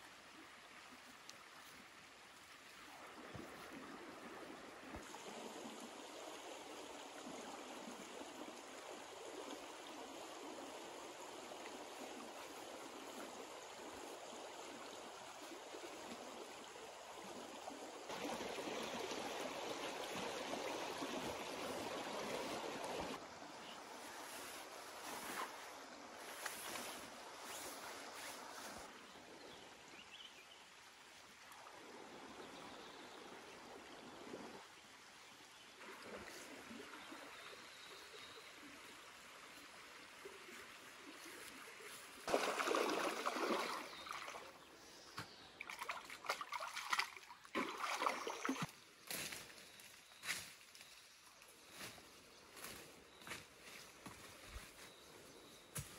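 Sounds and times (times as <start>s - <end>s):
river running over stones: 0.0s - 49.5s.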